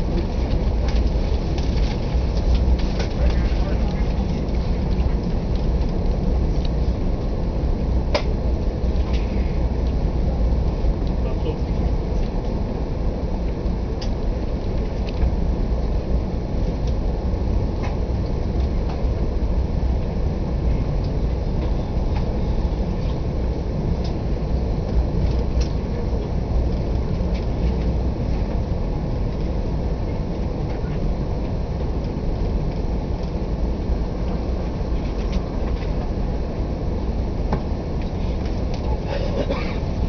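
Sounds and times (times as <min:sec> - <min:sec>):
passenger train rumble inside coach: 0:00.0 - 0:40.0.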